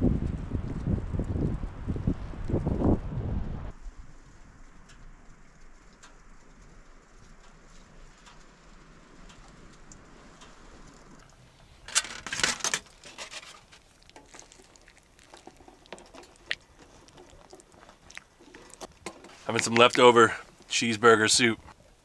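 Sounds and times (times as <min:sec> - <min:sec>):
soft steady hiss: 0:03.7 - 0:22.0.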